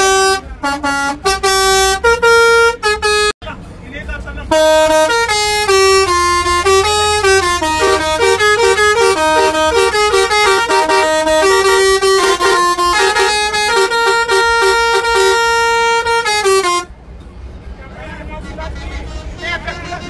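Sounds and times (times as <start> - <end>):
bus horn playing a tune: 0.0 - 3.4, 4.5 - 16.9, 18.2 - 20.0.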